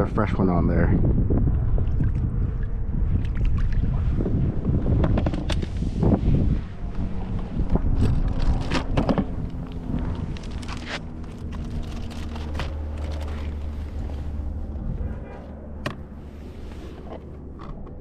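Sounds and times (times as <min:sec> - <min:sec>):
wind buffeting microphone: 0:00.0 - 0:16.6
steady low hum: 0:00.0 - 0:18.0.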